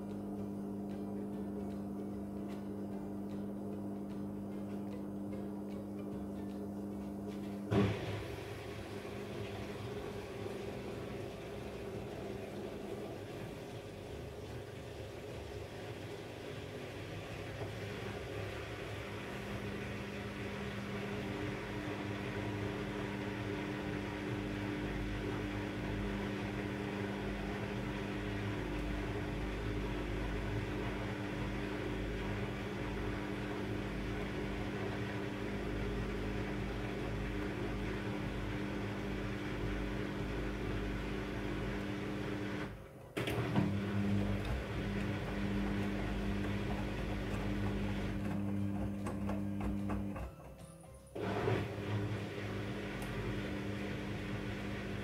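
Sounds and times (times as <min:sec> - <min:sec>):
washing machine running: 0:00.0 - 0:55.0.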